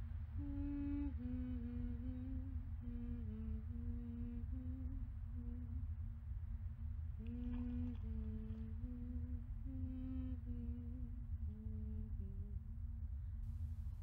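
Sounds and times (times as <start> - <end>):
person humming a slow tune: 0.0 - 6.0, 7.2 - 12.8
low steady rumble: 0.0 - 14.0.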